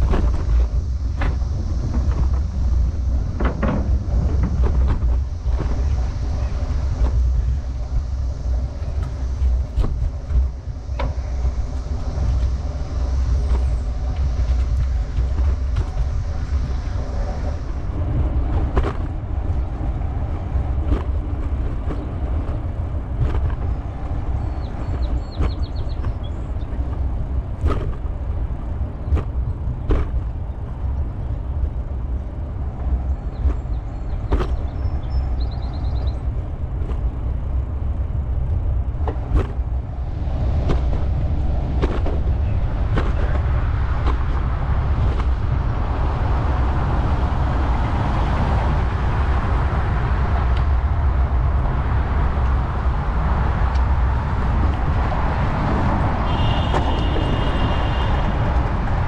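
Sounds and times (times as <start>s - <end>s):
bicycle tyre and road noise: 0.0s - 59.0s
wind buffeting microphone: 0.0s - 59.0s.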